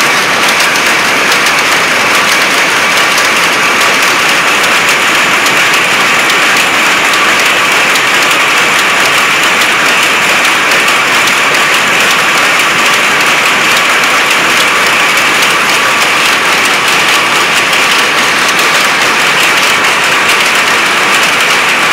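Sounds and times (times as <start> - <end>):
power looms clattering: 0.0 - 21.9.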